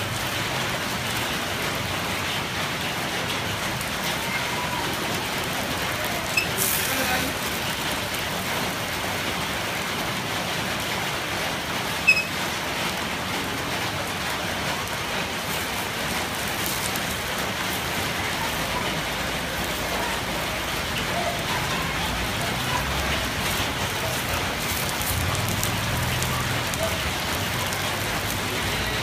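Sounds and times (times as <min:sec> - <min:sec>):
batter sizzling in a pan: 0:00.1 - 0:29.0.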